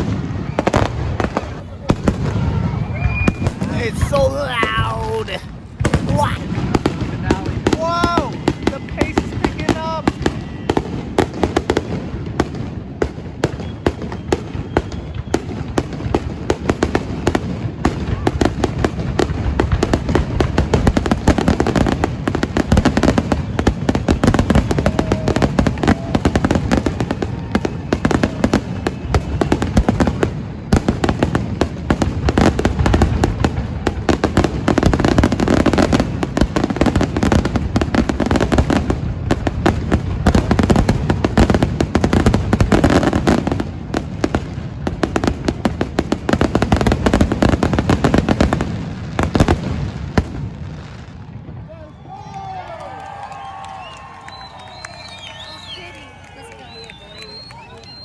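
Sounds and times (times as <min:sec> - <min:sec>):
fireworks booms and crackling: 0:00.0 - 0:58.0.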